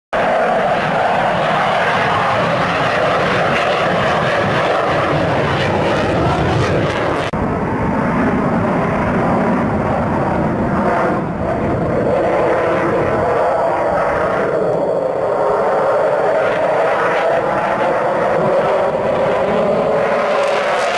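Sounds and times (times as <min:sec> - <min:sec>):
jet fighter roar: 0:00.2 - 0:20.9.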